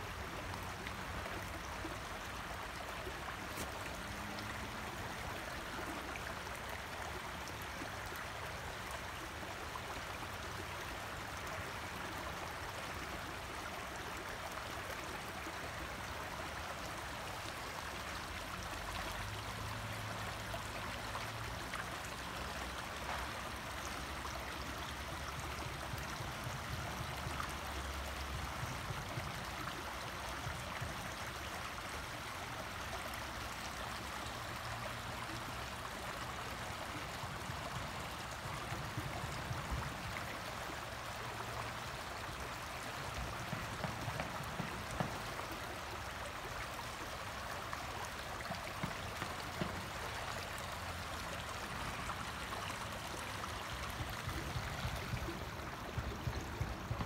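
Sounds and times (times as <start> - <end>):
creek babbling over rocks: 0.0 - 57.0.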